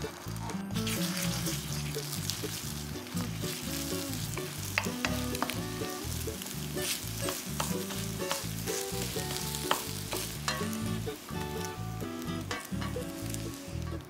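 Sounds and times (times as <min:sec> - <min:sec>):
egg sizzling in hot oil: 0:00.0 - 0:14.0
soft background music: 0:00.0 - 0:14.0
wooden spatula scraping a wok: 0:00.0 - 0:14.0.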